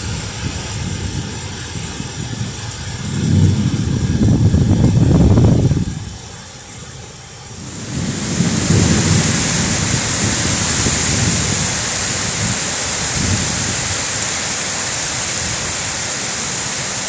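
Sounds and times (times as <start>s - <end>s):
wind buffeting microphone: 0.0s - 16.9s
heavy rain: 0.0s - 17.0s
strong wind in trees: 0.0s - 17.0s.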